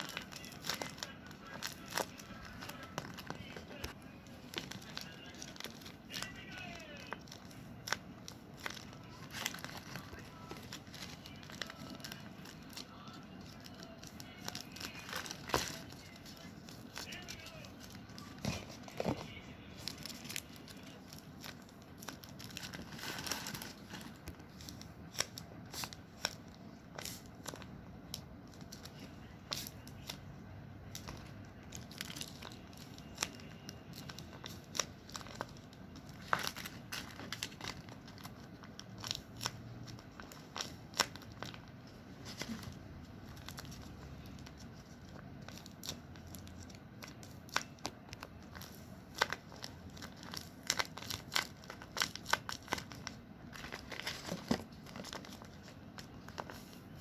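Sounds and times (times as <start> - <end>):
paper and tape crinkling: 0.0 - 57.0.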